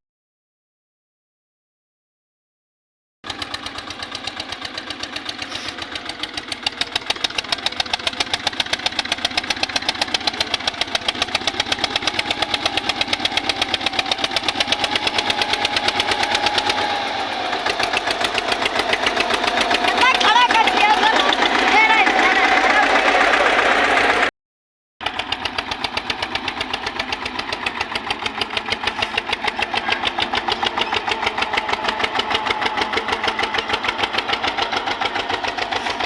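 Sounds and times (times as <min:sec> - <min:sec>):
tractor diesel engine thumping: 0:03.3 - 0:24.3, 0:25.0 - 0:36.0.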